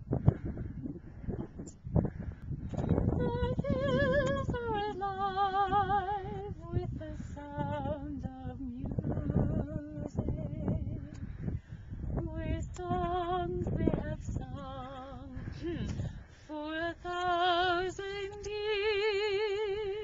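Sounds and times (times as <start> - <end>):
wind rumble on microphone: 0.0 - 20.0
woman singing with vibrato: 2.9 - 11.2, 12.2 - 20.0.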